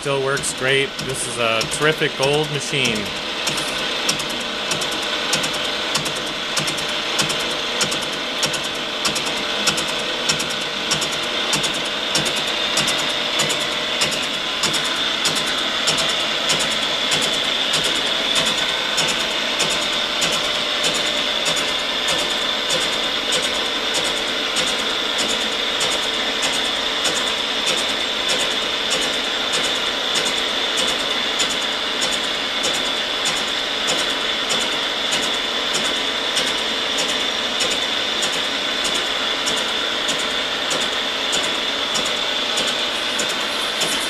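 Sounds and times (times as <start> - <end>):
milling machine whirring: 0.0 - 44.0
sharp mechanical clicks: 0.1 - 44.0.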